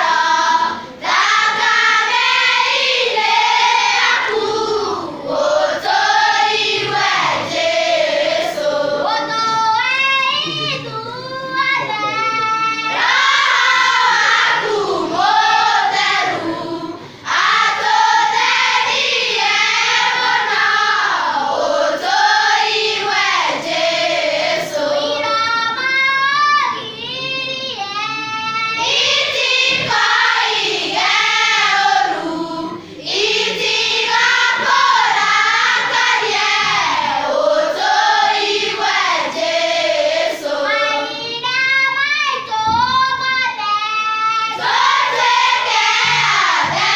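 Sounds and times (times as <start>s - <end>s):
children's choir singing: 0.0s - 46.9s.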